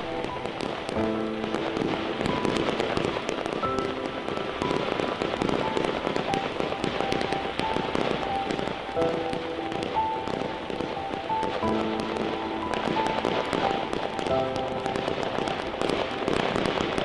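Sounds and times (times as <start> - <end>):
fireworks crackling: 0.0 - 17.0
music in held notes: 0.0 - 17.0.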